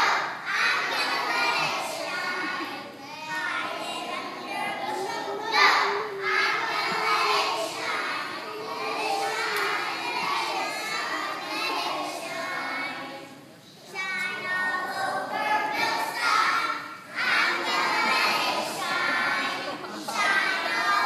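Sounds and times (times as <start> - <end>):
children singing together: 0.0 - 21.0.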